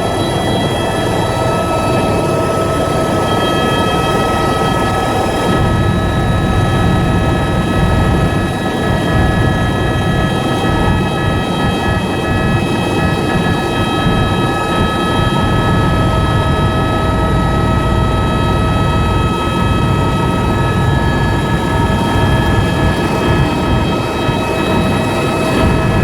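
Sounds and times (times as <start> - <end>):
helicopter rotor and engine drone: 0.0 - 26.0
high whine: 0.0 - 26.0.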